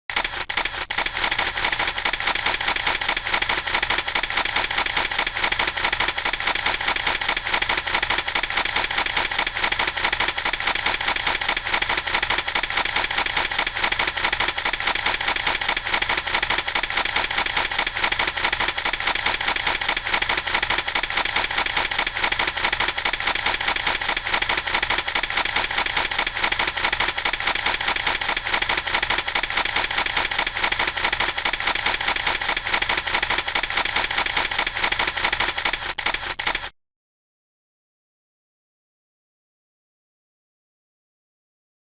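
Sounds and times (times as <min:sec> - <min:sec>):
camera shutters clicking rapidly: 0:00.1 - 0:36.7.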